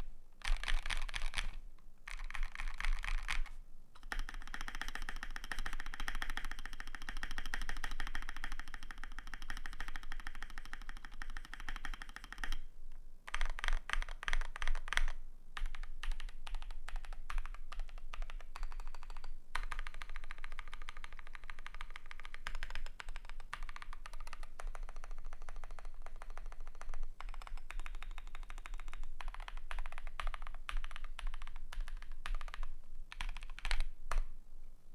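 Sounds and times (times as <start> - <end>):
mechanical keyboard typing: 0.4 - 12.7, 13.3 - 34.2.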